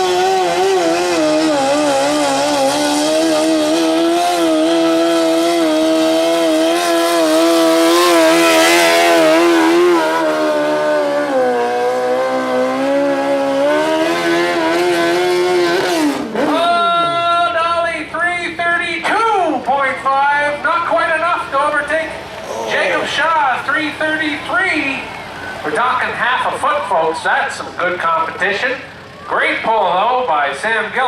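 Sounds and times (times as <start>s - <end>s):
tractor engine at high revs: 0.0s - 17.3s, 19.0s - 31.0s.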